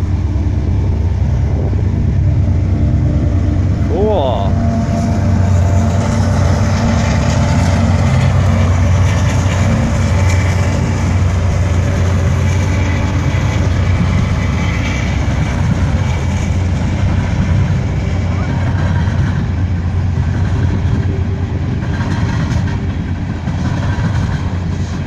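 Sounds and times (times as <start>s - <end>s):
freight train rumbling on rails: 0.0s - 25.0s.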